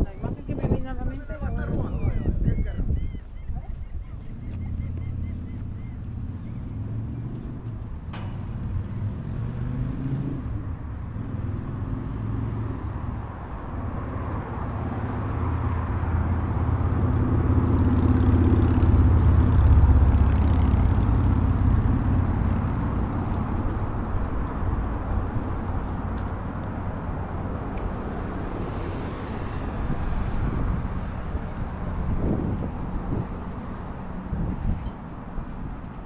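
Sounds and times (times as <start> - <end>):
vehicle engine rumble passing: 3.0 - 36.0.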